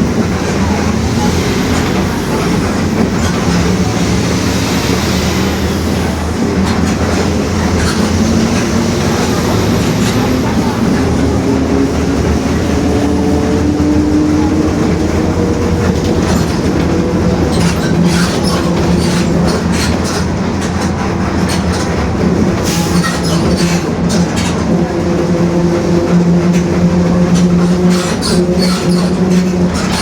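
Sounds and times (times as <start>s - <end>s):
bus diesel engine running: 0.0s - 30.0s
growling differential whine: 0.0s - 30.0s.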